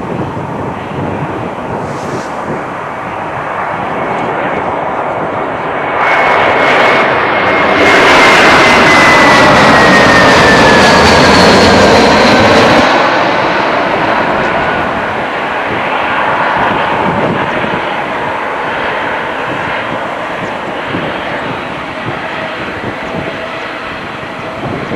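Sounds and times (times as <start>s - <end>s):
jet airliner passing: 0.0s - 24.9s
jet engine whine: 0.0s - 24.9s.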